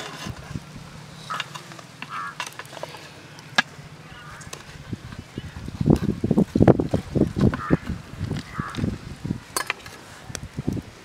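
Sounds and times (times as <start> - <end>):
low outdoor hum: 0.0 - 11.0.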